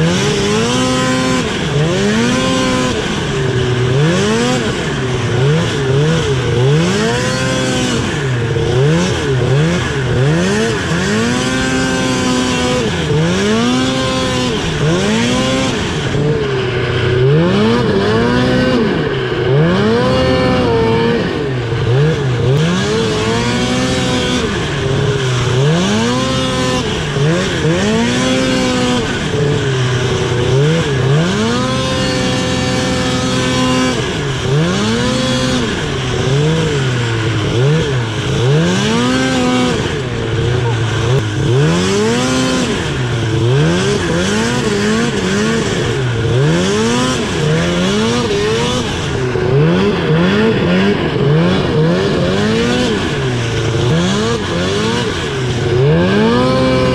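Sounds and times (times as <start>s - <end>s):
snowmobile engine revving: 0.0s - 56.9s.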